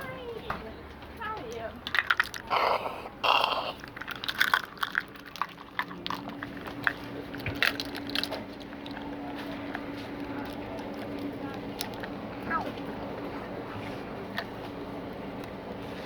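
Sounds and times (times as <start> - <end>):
crinkling handling noise: 1.3 - 14.8
steady low hum: 2.4 - 16.0.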